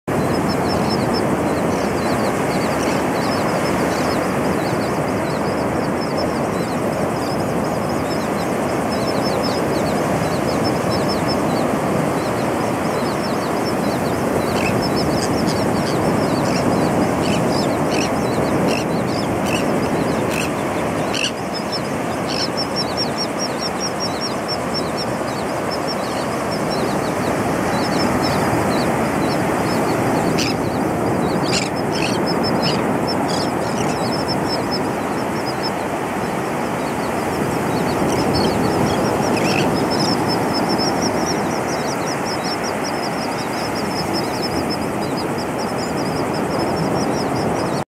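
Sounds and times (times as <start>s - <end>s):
ocean surf breaking: 0.1s - 47.8s
seabirds calling: 0.1s - 47.8s.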